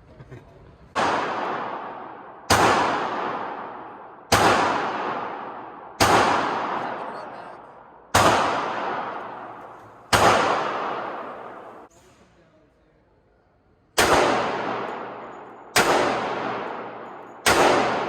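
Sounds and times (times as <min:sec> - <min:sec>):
pistol shots with echo: 0:00.9 - 0:11.9, 0:13.9 - 0:18.0.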